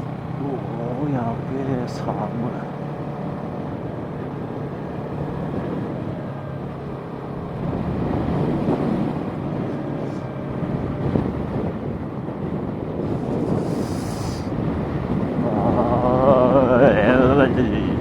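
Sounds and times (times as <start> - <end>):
motorcycle engine hum: 0.0 - 18.0
wind buffeting microphone: 0.0 - 18.0.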